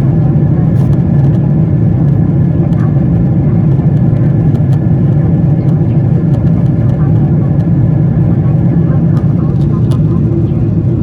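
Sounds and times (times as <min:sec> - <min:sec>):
airplane engines low rumble: 0:00.0 - 0:11.0.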